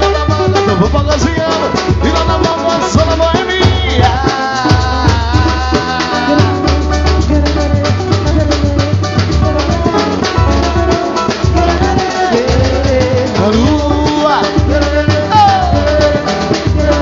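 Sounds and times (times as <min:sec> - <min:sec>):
bass line: 0:00.0 - 0:17.0
drums and hand percussion: 0:00.0 - 0:17.0.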